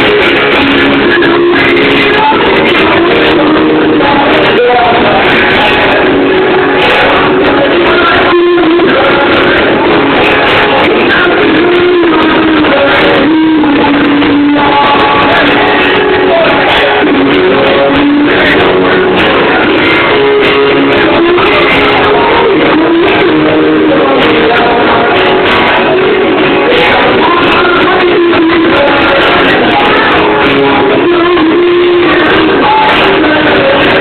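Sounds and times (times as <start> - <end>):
man singing into a microphone: 0.0 - 34.0
strummed acoustic guitar: 0.0 - 34.0.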